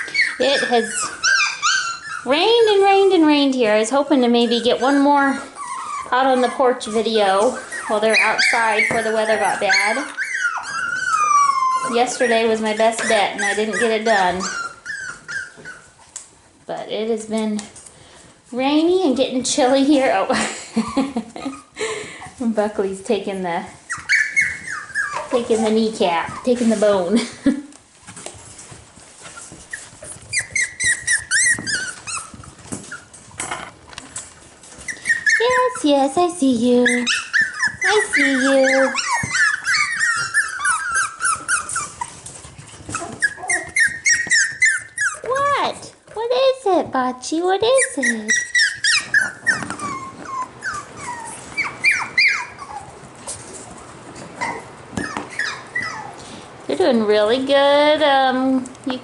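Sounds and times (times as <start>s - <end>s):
puppies whining: 0.0s - 16.6s, 19.4s - 22.4s, 23.7s - 27.4s, 28.0s - 46.6s, 47.6s - 58.1s.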